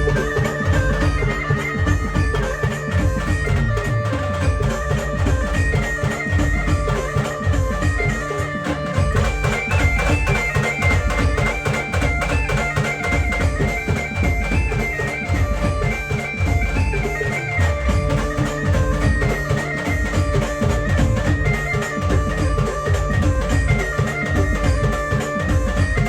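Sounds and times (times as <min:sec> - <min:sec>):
fast drum beat: 0:00.0 - 0:26.0.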